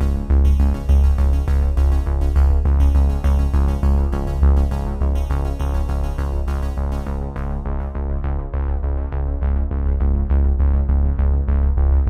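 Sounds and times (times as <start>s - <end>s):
electronic music: 0.0s - 12.0s
pulsing bass: 0.0s - 12.0s.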